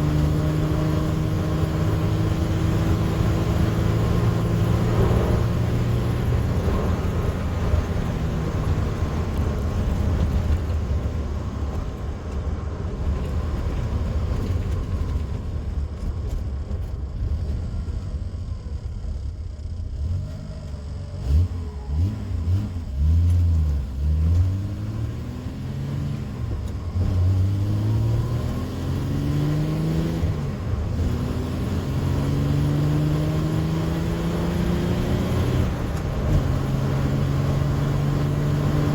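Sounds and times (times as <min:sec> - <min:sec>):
car engine revving: 0:00.0 - 0:12.1, 0:17.1 - 0:38.9.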